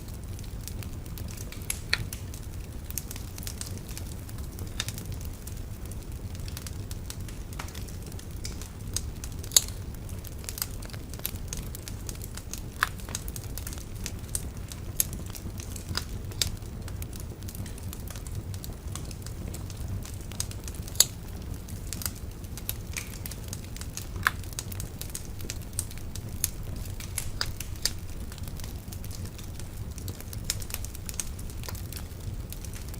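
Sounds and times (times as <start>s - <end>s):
bonfire crackling and popping: 0.0s - 32.9s
steady low rumble: 0.0s - 32.9s.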